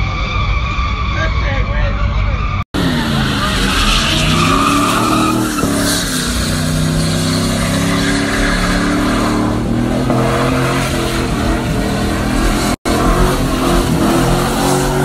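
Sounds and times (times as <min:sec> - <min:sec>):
car engine revving hard: 0:02.7 - 0:15.0.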